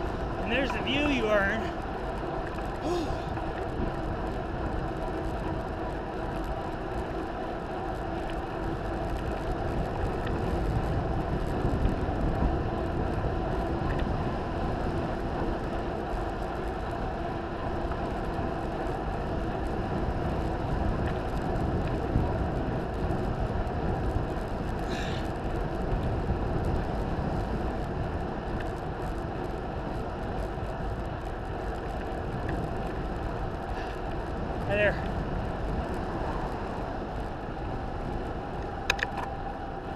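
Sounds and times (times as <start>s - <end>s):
bicycle tyre roar: 0.0s - 39.9s
wind noise on microphone: 0.0s - 39.9s.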